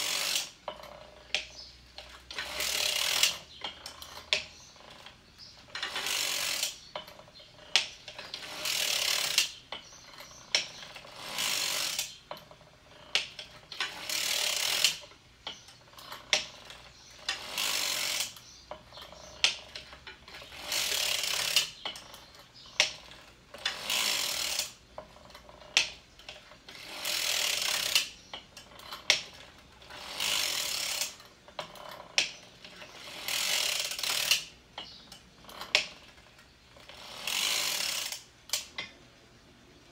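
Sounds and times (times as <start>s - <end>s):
ratcheting swish of sock machine: 0.0s - 39.0s.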